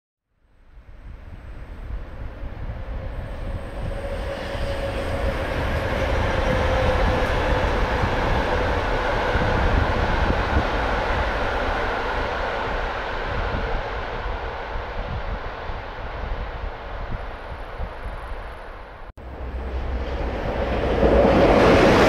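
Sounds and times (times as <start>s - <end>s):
train wheels rumbling: 1.7s - 22.0s.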